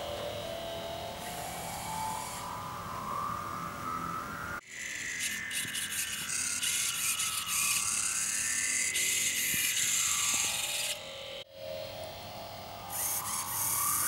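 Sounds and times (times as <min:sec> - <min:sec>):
flanged electronic drone and hiss: 0:00.0 - 0:14.0.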